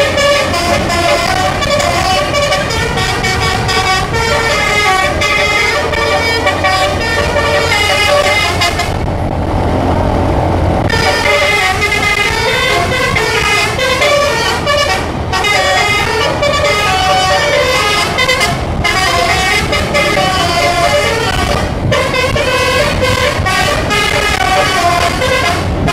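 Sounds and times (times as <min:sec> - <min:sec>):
bus horn playing tune: 0:00.0 - 0:09.1, 0:10.8 - 0:25.9
bus engine rumble: 0:00.0 - 0:25.9.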